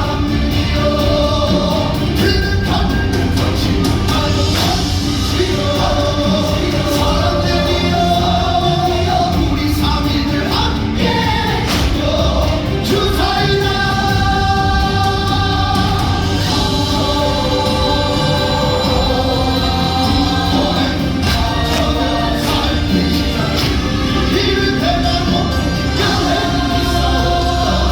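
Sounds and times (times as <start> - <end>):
choir singing: 0.0 - 27.9
loud musical accompaniment: 0.0 - 27.9.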